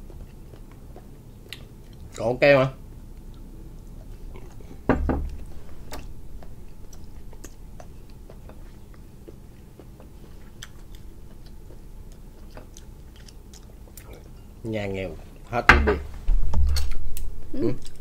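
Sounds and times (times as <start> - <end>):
person chewing: 0.0 - 2.2, 3.0 - 14.6, 16.8 - 18.0.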